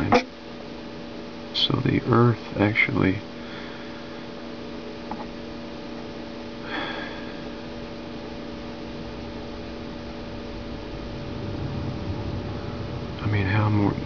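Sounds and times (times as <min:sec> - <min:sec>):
electrical mains hum and hiss: 0:00.0 - 0:14.0.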